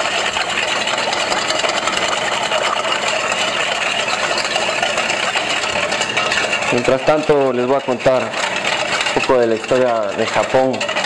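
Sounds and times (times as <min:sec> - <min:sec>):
utensil scraping metal bowl: 0:00.0 - 0:11.0.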